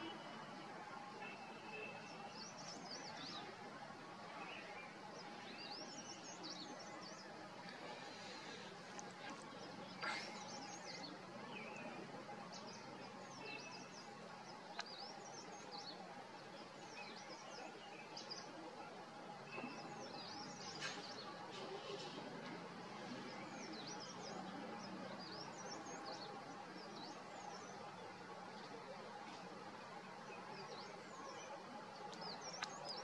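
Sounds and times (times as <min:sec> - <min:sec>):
wild birds chirping: 0:00.0 - 0:33.0.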